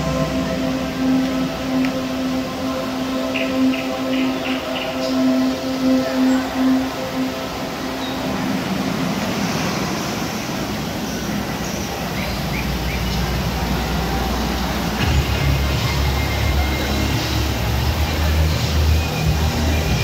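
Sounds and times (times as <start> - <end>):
crowd noise in a hall: 0.0 - 20.0
low hum: 0.0 - 20.0.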